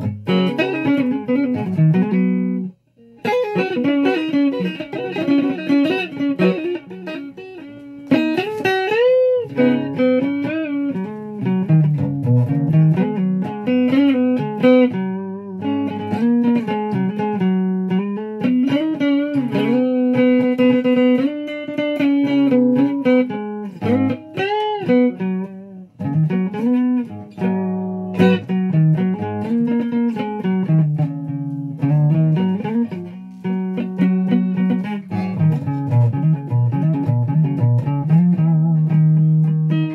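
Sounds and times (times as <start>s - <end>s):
electric guitar lead melody: 0.0s - 39.9s.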